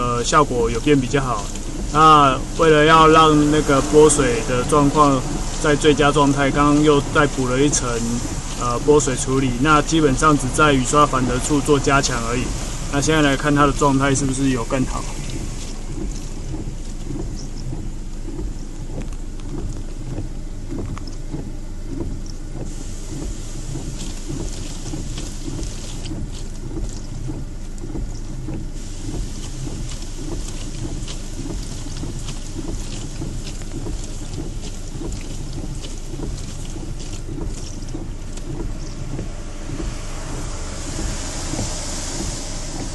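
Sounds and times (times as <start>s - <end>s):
car engine rumble: 0.0s - 42.9s
water hissing on glass: 0.0s - 42.9s
windshield wipers sweeping: 0.0s - 42.9s.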